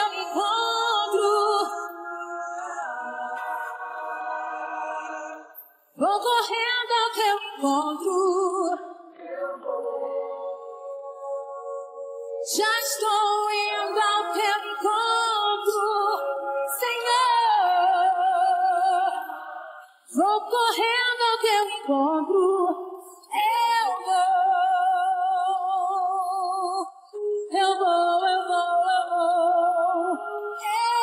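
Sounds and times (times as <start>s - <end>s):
women singing a cappella: 0.0s - 31.0s.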